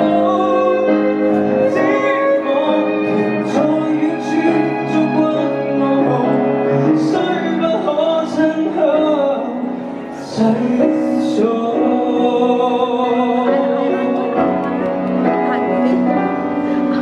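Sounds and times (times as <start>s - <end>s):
man singing into microphone: 0.0s - 15.1s
violin: 0.0s - 17.0s.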